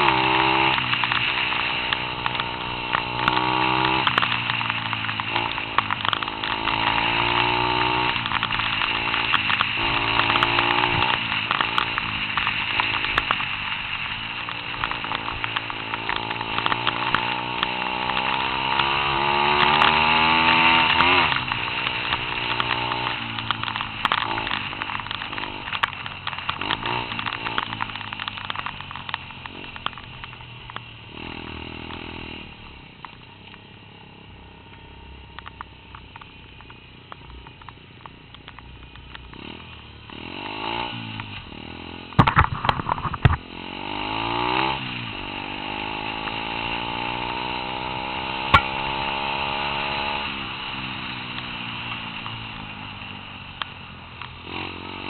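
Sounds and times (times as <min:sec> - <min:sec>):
pit bike engine revving: 0:00.0 - 0:30.4, 0:31.1 - 0:32.6, 0:39.3 - 0:53.1, 0:54.4 - 0:55.0.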